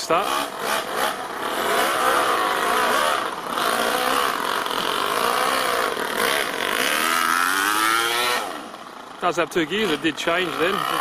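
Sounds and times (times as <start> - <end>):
model truck engine revving: 0.0 - 11.0.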